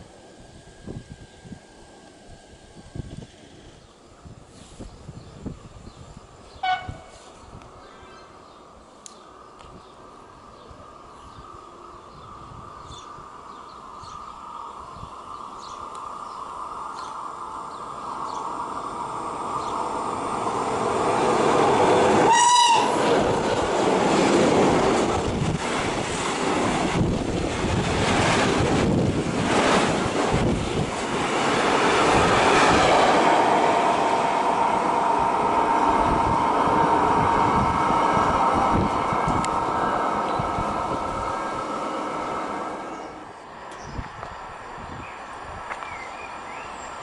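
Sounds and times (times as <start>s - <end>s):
electric locomotive rumble: 0.0s - 7.8s, 9.4s - 47.0s.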